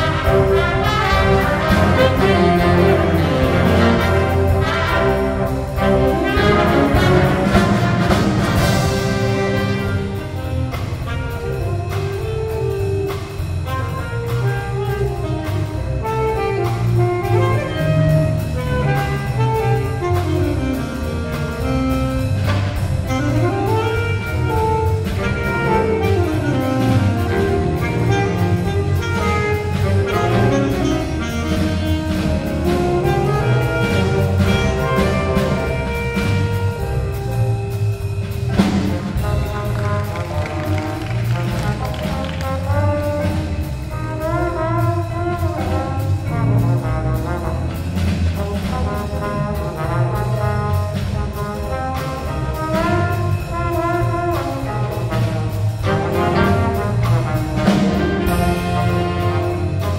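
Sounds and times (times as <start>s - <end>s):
jazz band playing blues: 0.0s - 59.9s
steady cymbal beat: 0.0s - 59.9s.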